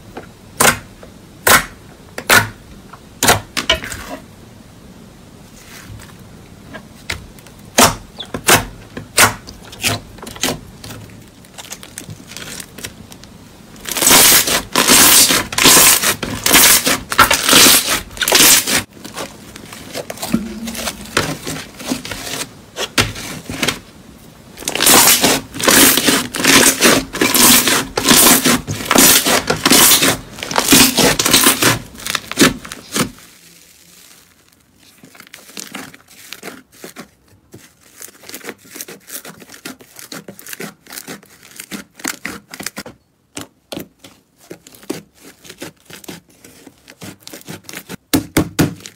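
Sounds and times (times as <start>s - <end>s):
slime squishing and crackling: 7.3s - 23.8s, 24.6s - 48.0s.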